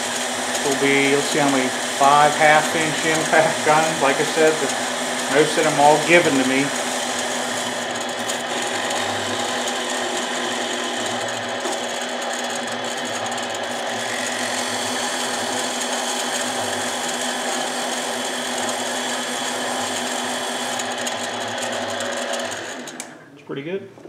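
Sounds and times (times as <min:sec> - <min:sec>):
abrasive polishing spinning part: 0:00.0 - 0:23.1
lathe motor whine: 0:00.0 - 0:23.3.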